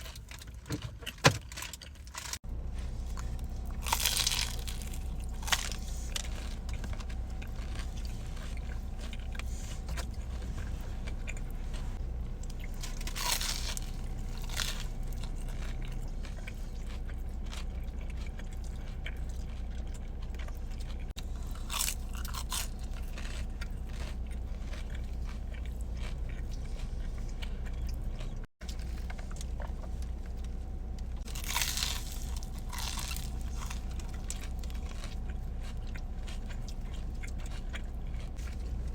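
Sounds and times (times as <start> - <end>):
crunchy chewing: 0.0 - 38.9
steady low hum: 1.8 - 38.9.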